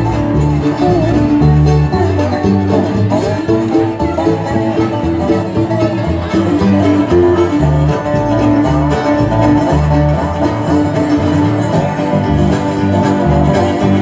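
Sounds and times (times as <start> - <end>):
harmonica notes: 0.0 - 14.0
low bass line: 0.0 - 14.0
strummed acoustic guitar: 0.0 - 14.0.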